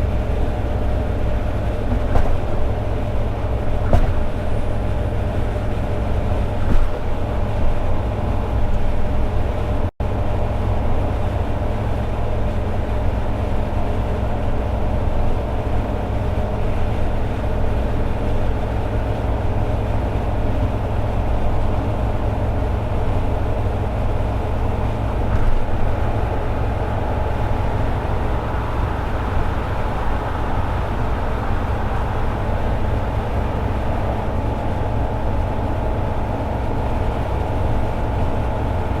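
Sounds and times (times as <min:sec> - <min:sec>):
car engine cruising: 0:00.0 - 0:39.0
road rumble: 0:00.0 - 0:39.0.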